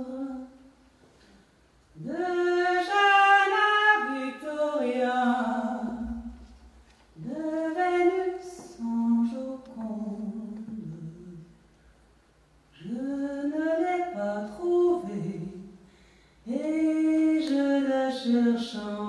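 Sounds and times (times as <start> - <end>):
woman singing unaccompanied: 0.0 - 0.7, 1.9 - 6.5, 7.2 - 11.6, 12.7 - 19.0.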